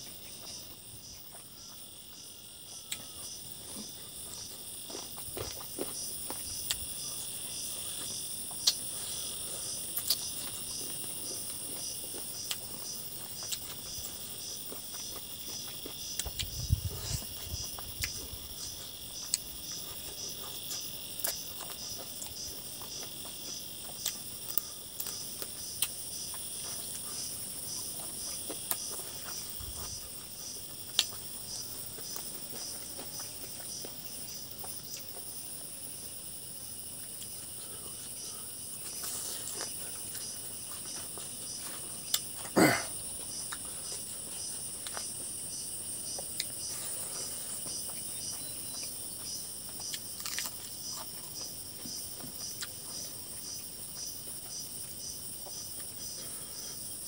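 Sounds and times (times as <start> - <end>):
chewing and eating sounds: 0.0 - 35.6, 36.8 - 56.7
pulsing insect chirping: 0.0 - 57.0.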